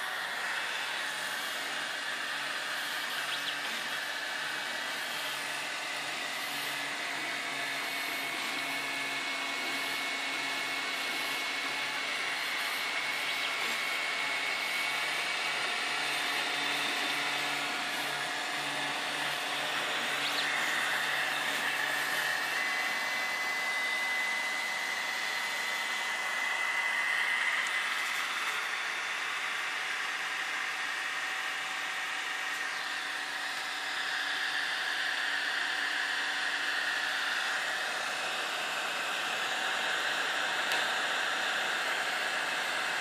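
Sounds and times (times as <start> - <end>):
fan whirring: 0.0 - 43.0
stepper motors whining: 0.0 - 43.0.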